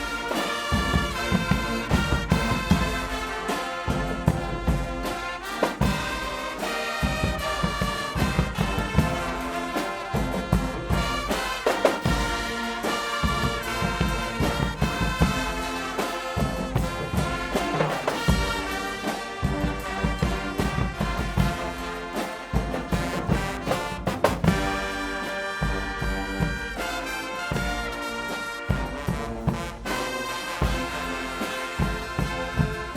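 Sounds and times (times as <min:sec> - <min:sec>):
brass blaring a tune: 0:00.0 - 0:32.9
drums beating steady rhythm: 0:00.0 - 0:32.9.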